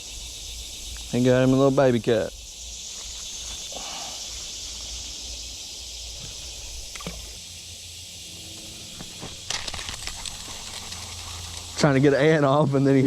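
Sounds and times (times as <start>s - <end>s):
high-pitched outdoor hiss: 0.0s - 13.0s.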